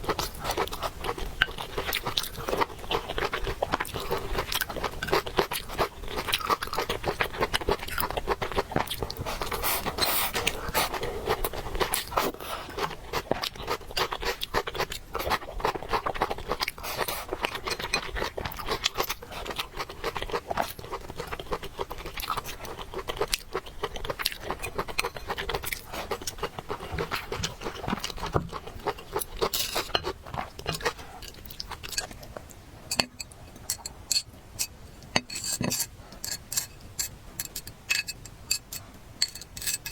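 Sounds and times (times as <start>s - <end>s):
chewing and crunching food: 0.0s - 34.0s.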